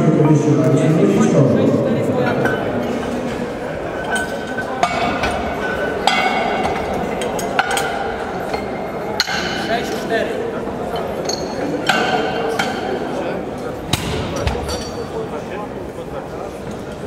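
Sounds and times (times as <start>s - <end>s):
murmur of voices: 0.0s - 17.0s.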